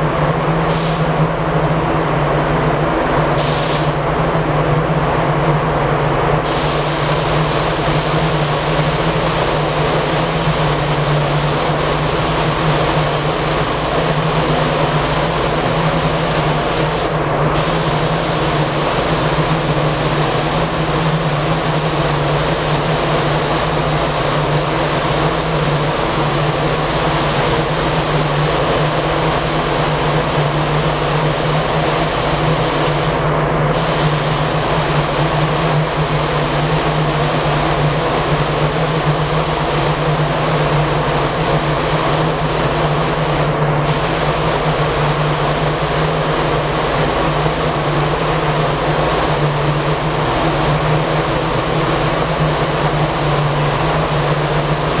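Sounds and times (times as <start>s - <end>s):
low machine hum: 0.0s - 55.0s
paint spray gun hissing: 0.7s - 1.1s, 3.4s - 4.0s, 6.4s - 55.0s.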